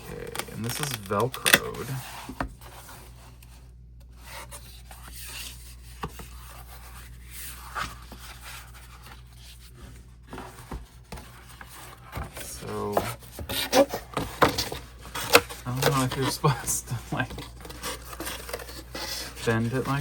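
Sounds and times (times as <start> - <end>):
cardboard rubbing and sliding: 0.0 - 20.0.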